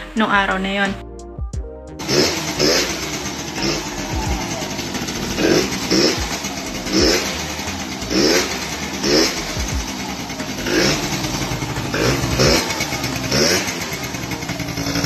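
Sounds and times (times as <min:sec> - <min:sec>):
scooter engine throttle blips: 0:02.0 - 0:15.0.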